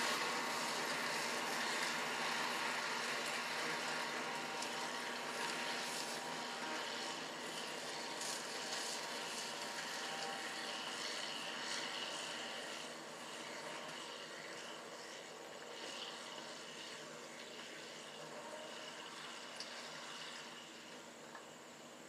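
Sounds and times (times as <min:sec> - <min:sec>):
distant tractor and harvester drone: 0:00.0 - 0:22.0.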